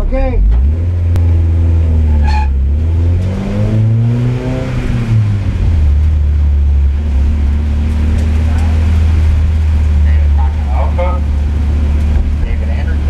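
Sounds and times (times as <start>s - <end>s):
race car engine humming: 0.0s - 13.0s.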